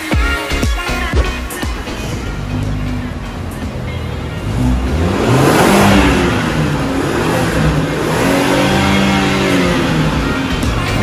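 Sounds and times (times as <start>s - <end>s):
car engine revving: 0.9s - 11.0s.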